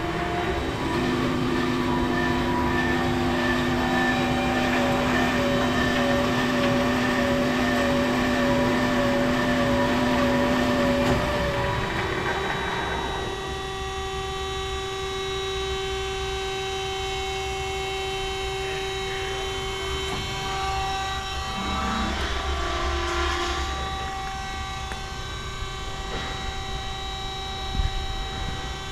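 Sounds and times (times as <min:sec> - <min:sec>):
band saw running hum: 0:00.0 - 0:28.9.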